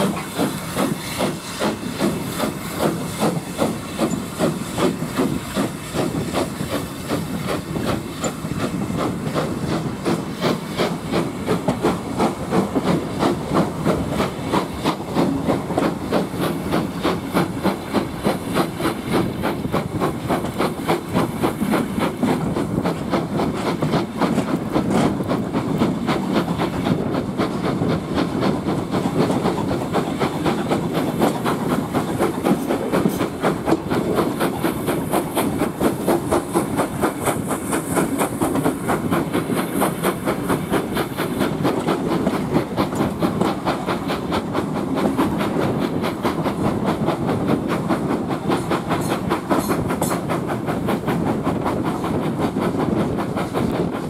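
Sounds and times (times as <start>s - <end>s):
steam hissing: 0.0s - 54.0s
train running noise: 0.0s - 54.0s
wheel clatter over rail joints: 0.0s - 54.0s.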